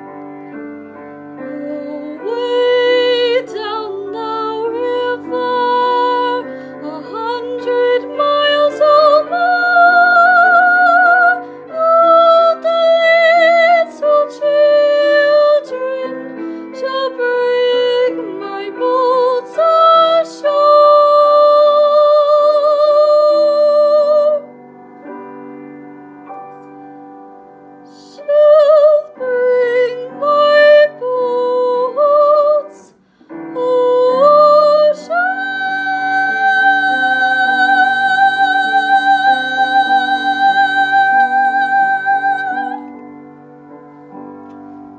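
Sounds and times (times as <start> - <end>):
woman singing classical: 0.0 - 24.6, 27.8 - 44.4
piano accompaniment: 0.0 - 44.9.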